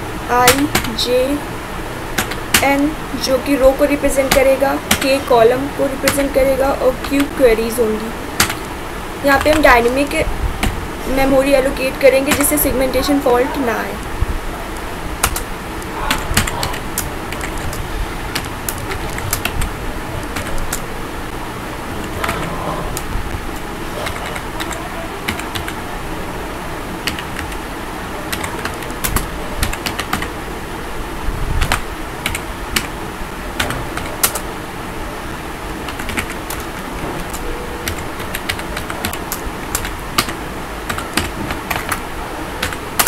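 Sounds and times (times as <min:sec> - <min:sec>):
steady background noise: 0:00.0 - 0:43.0.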